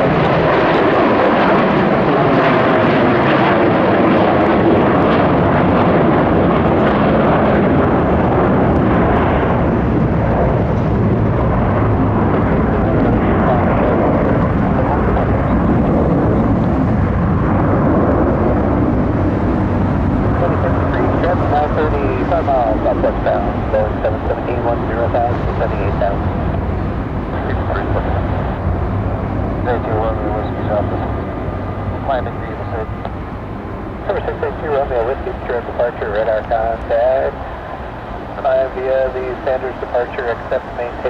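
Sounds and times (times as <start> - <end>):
jet engines roaring at takeoff: 0.0 - 41.0.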